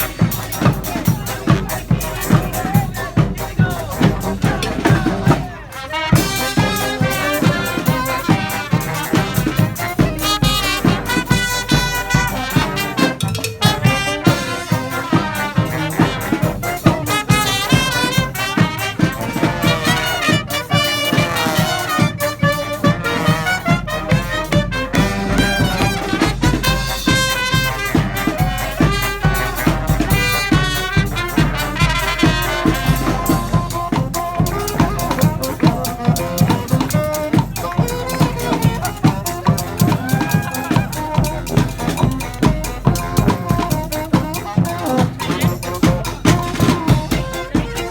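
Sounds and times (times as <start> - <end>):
steady drum beat: 0.0 - 47.9
trumpets and trombones playing: 0.0 - 47.9.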